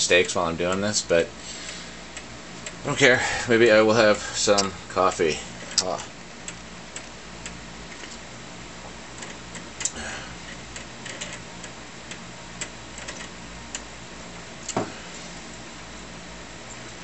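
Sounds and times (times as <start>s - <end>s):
computer low hum: 0.0s - 17.0s.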